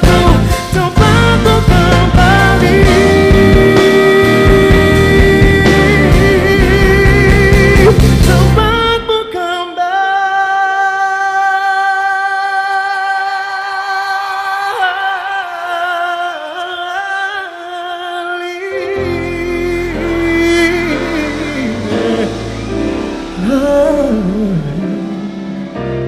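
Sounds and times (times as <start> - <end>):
live pop band: 0.0 - 26.0.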